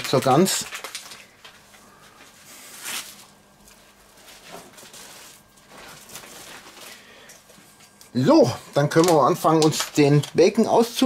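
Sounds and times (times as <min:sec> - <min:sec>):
cling film rustling and crinkling: 0:00.0 - 0:08.1, 0:08.7 - 0:11.0.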